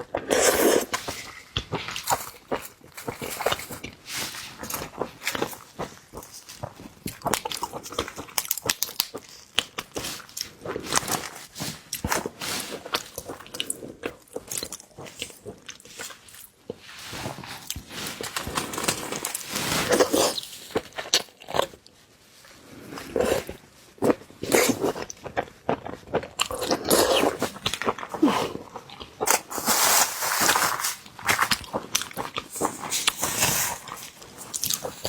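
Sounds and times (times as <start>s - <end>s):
chewing seafood crunches: 0.0s - 22.0s, 22.6s - 35.0s.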